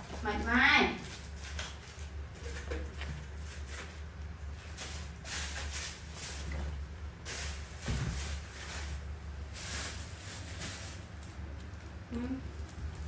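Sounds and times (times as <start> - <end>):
soft rustling and shuffling: 0.0 - 12.0
low steady hum: 0.0 - 13.0.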